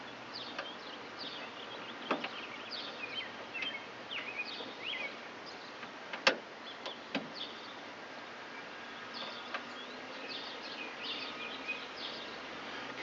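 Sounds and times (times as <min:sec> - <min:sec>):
birds chirping: 0:00.0 - 0:13.0
steady outdoor hiss: 0:00.0 - 0:13.0.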